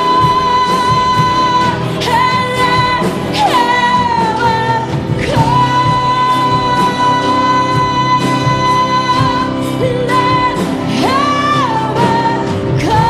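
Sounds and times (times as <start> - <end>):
person singing: 0.0 - 13.0
worship band playing: 0.0 - 13.0.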